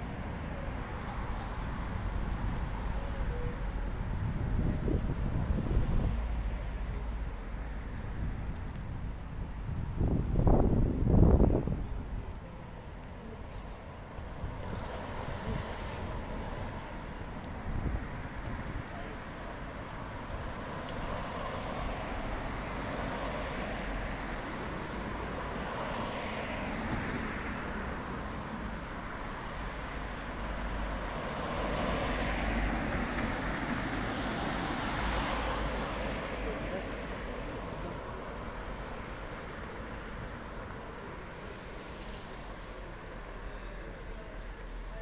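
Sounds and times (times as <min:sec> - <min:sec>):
city ambience: 0:00.0 - 0:45.0.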